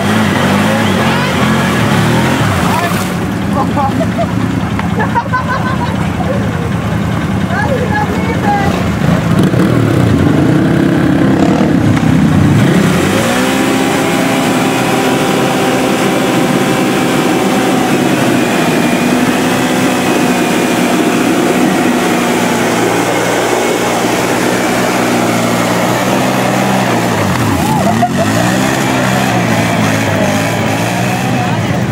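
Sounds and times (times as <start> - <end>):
atv engine revving: 0.0 - 31.9.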